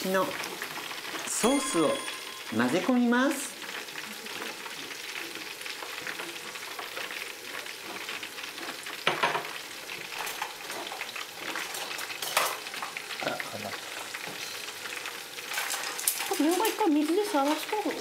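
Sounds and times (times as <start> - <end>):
fritters sizzling in hot oil: 0.0 - 18.0.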